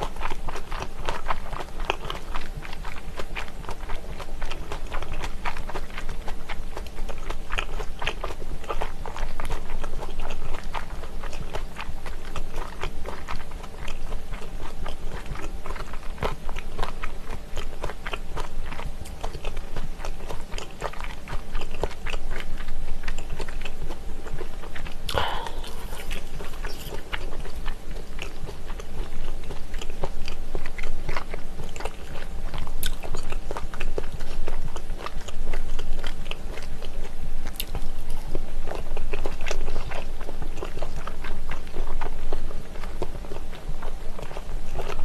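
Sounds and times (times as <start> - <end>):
close chewing and crunching: 0.0 - 45.0.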